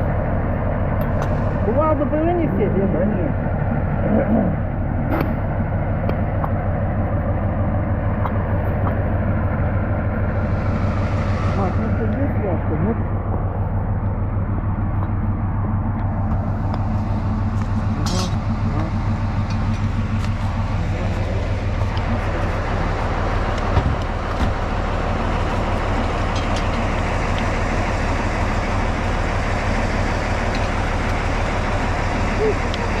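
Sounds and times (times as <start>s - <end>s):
diesel locomotive engine idling: 0.0s - 33.0s.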